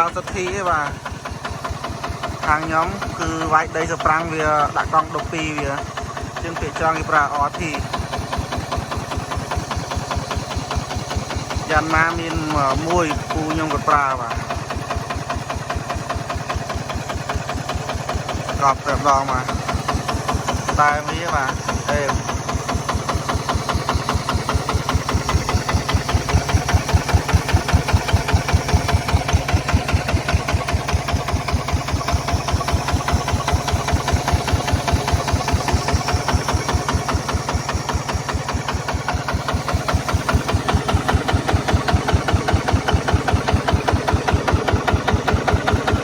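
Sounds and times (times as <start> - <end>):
diesel engine running steadily: 0.0 - 46.0.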